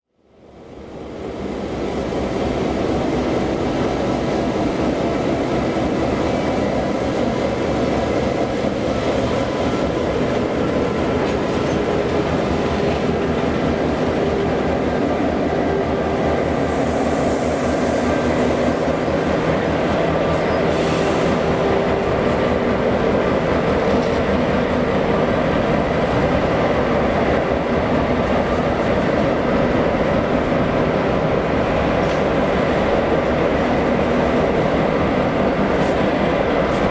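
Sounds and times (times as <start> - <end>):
train running: 0.4 - 36.9.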